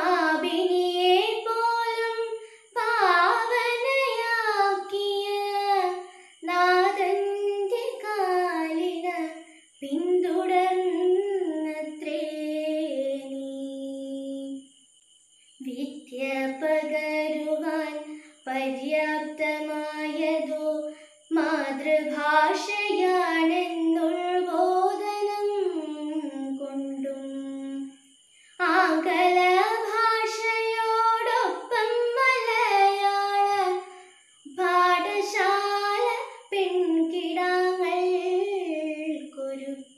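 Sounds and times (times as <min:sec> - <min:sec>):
woman singing: 0:00.0 - 0:14.6, 0:15.6 - 0:28.0, 0:28.6 - 0:39.9.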